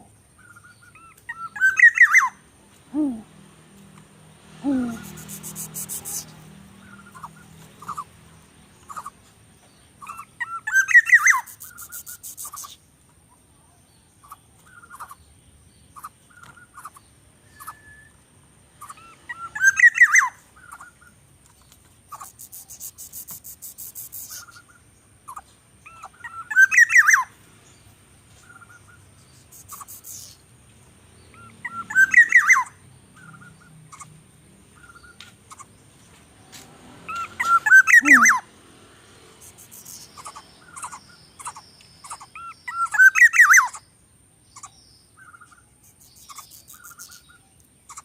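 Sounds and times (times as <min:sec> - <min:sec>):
bird chirps: 0:00.0 - 0:03.2, 0:04.5 - 0:30.5, 0:31.1 - 0:38.5, 0:39.2 - 0:48.0
rapid chattering bird calls: 0:04.6 - 0:13.5, 0:14.1 - 0:17.9, 0:18.6 - 0:27.3, 0:28.3 - 0:30.6, 0:31.2 - 0:36.2, 0:37.1 - 0:38.5, 0:39.2 - 0:48.0.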